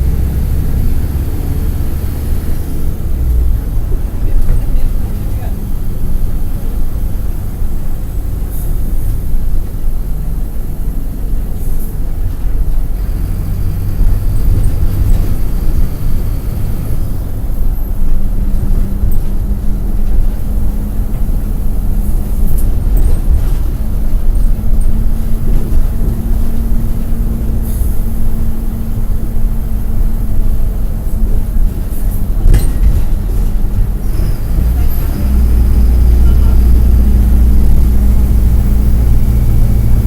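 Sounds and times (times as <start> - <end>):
bus body rattle: 0.0 - 40.0
bus diesel engine running: 0.0 - 40.0.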